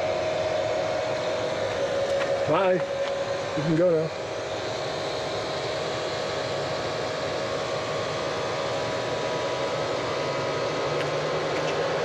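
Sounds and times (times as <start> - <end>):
fan-like whir and hum: 0.0 - 12.0
low hum: 0.0 - 12.0.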